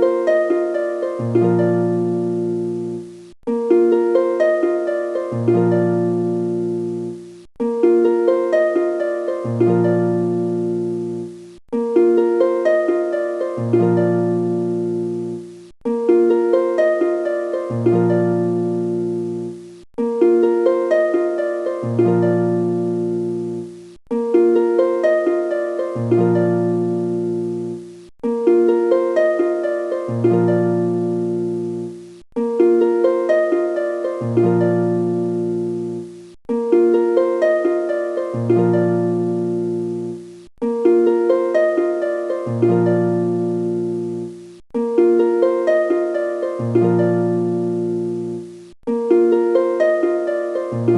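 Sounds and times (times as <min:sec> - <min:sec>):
plucked harp-like music loop: 0:00.0 - 0:50.9.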